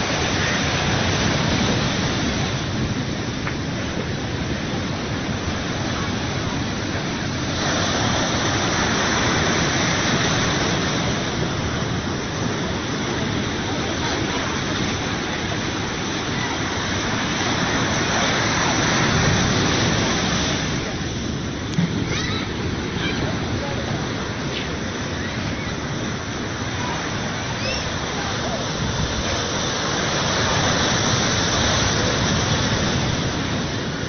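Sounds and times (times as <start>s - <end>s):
rough sea surf breaking: 0.0s - 34.0s.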